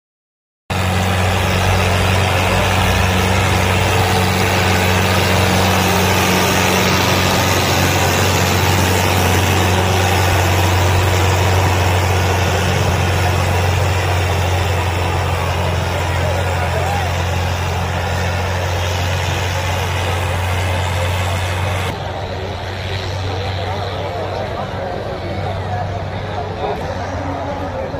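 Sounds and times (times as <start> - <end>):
diesel tractor engine under load: 0.7 - 27.9.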